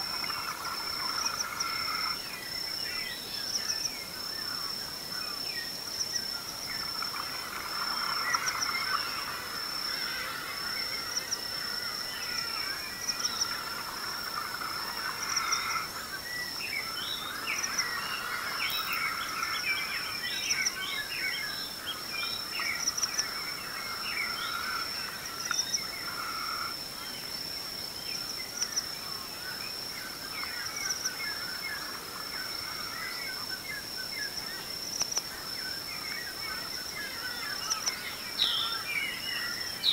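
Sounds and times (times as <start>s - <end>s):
birds calling and chirping: 0.0s - 39.9s.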